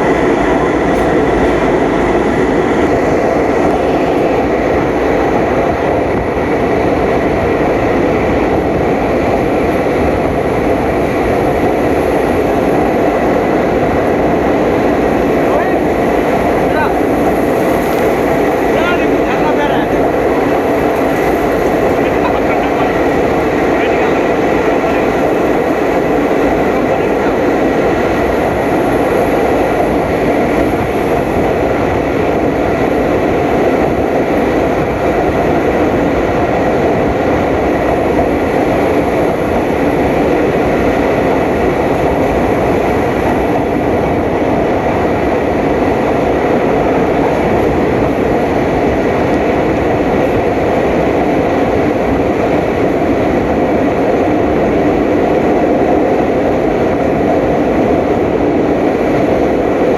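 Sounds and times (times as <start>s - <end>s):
faint steady whine: 0.0s - 59.9s
train wheels rushing on track: 0.0s - 59.9s.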